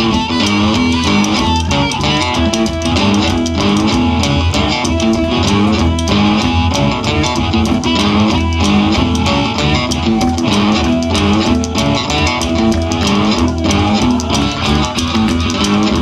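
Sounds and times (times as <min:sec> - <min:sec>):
cigar-box guitars: 0:00.0 - 0:16.0
drum kit beat: 0:00.0 - 0:16.0.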